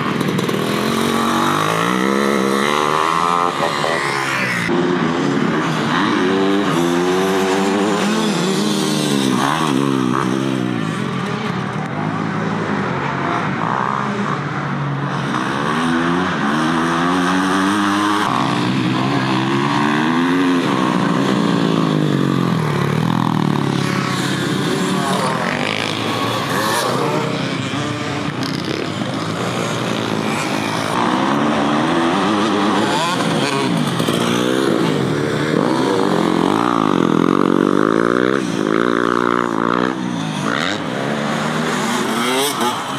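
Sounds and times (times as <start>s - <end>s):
motocross bike engines racing: 0.0s - 42.9s.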